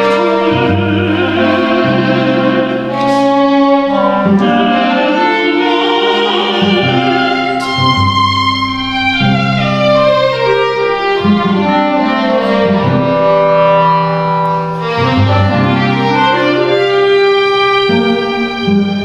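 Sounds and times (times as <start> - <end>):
cello long low notes: 0.0 - 19.0
clarinet: 0.0 - 19.0
violin: 0.0 - 19.0.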